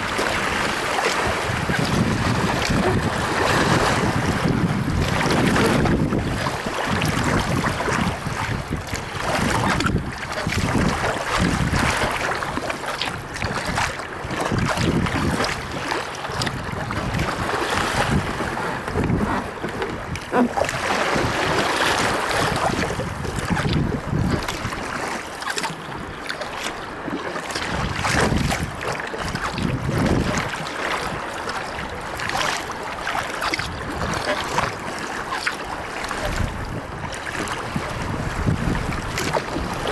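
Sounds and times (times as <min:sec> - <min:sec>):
wind buffeting microphone: 0:00.0 - 0:26.3, 0:27.6 - 0:35.1, 0:36.0 - 0:39.9
water rushing along hull: 0:00.0 - 0:39.9.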